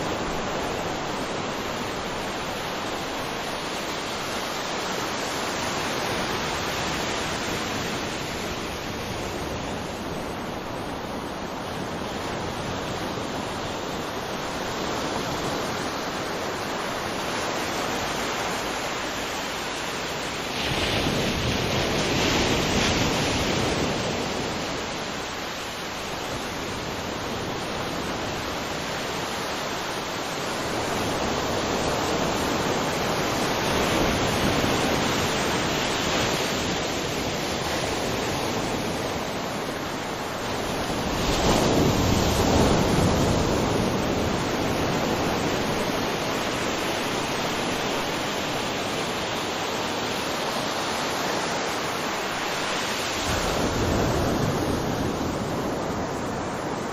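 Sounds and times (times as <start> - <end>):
ocean surf washing onto beach: 0.0 - 56.9.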